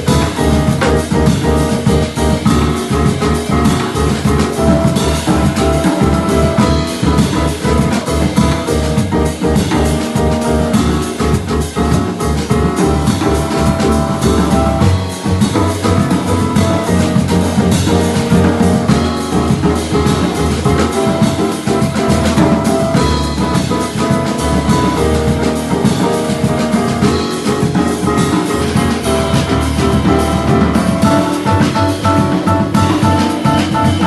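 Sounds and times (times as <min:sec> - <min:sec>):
bass: 0:00.0 - 0:34.0
drum kit with cymbals: 0:00.0 - 0:34.0
piano: 0:00.0 - 0:34.0.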